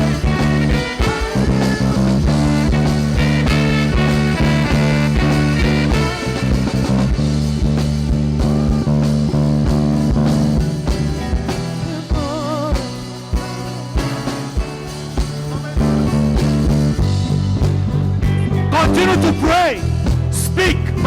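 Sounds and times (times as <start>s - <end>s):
bass: 0.0s - 21.0s
keyboard chords: 0.0s - 21.0s
steady drum beat: 0.0s - 21.0s.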